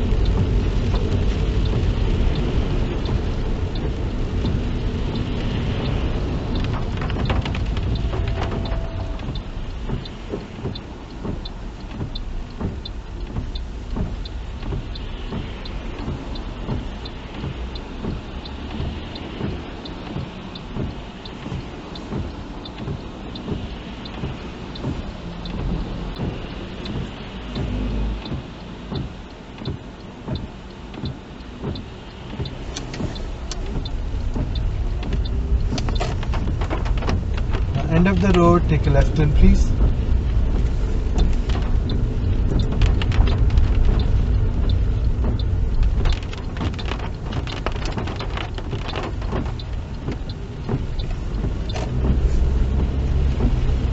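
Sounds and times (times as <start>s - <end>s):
car engine and tyre rumble: 0.0s - 53.9s
rain on car: 0.0s - 53.9s
turn indicator ticking: 0.0s - 53.9s.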